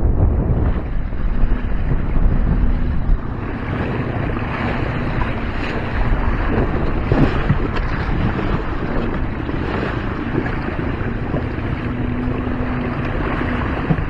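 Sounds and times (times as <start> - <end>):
water rushing along hull: 0.0 - 14.0
wind on microphone: 0.0 - 14.0.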